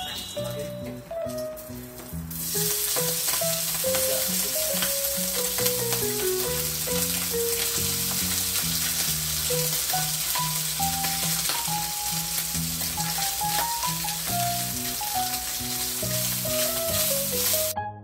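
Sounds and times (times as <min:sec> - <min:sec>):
sausage sizzling in a frying pan: 0:00.0 - 0:17.8
spatula stirring in a pan: 0:02.4 - 0:17.6.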